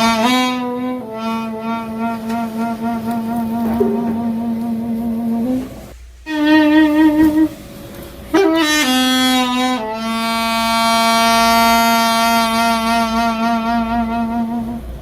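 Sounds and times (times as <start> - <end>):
solo wind instrument melody: 0.0 - 7.6, 8.3 - 15.0.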